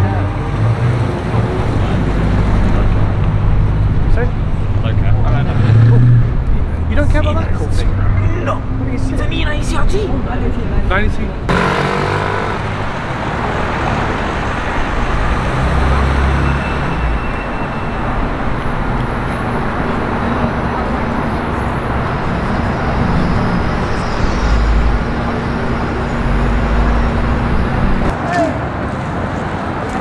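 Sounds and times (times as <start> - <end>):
low engine rumble: 0.0 - 28.2
traffic passing: 0.0 - 30.0.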